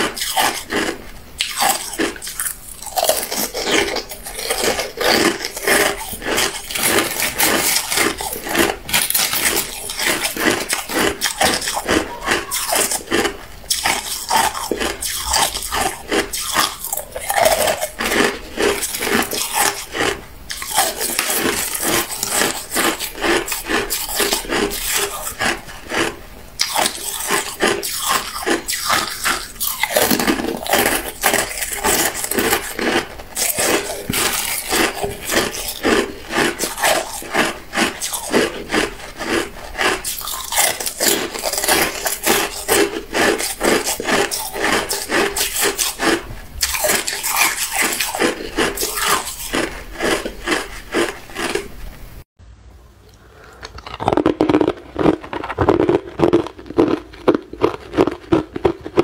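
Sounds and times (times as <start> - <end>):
ice being chewed crunching: 0.0 - 52.0, 53.1 - 59.0.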